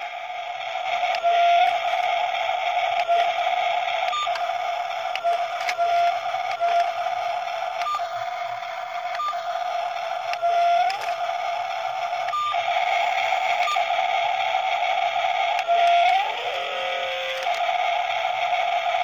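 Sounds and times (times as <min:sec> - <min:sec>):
toy electric motors whining: 0:00.0 - 0:19.0.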